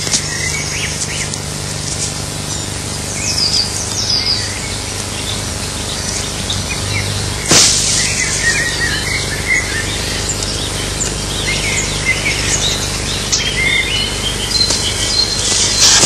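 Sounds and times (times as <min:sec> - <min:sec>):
birds chirping: 0:00.0 - 0:16.0
steady background hiss: 0:00.0 - 0:16.0.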